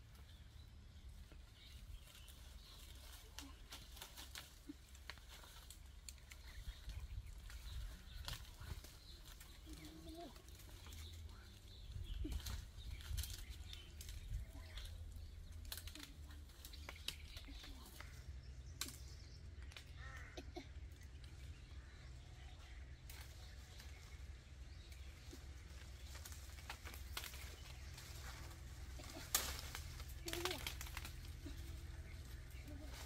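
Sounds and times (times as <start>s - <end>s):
leaves and branches rustling: 0.0s - 33.0s
steady low rumble: 0.0s - 33.0s.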